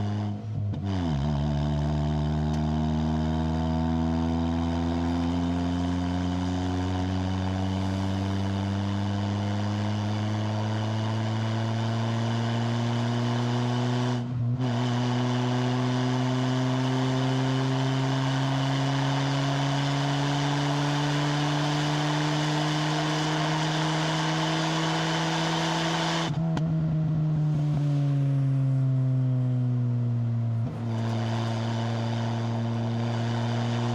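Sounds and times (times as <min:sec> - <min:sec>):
car exhaust under load: 0:00.0 - 0:05.6, 0:06.4 - 0:33.9.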